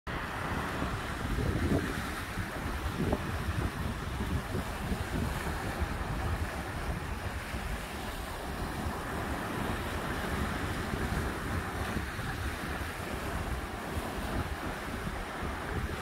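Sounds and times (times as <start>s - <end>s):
sea surf washing on shore: 0.1s - 16.0s
wind buffeting microphone: 0.1s - 16.0s.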